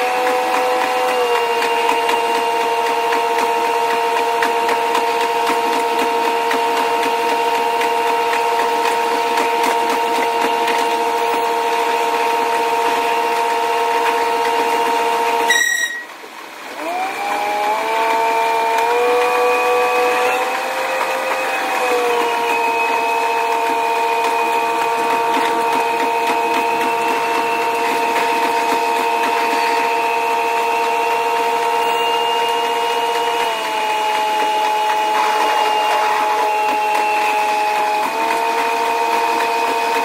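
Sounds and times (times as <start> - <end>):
sped-up railcar engine whine: 0.0 - 40.0.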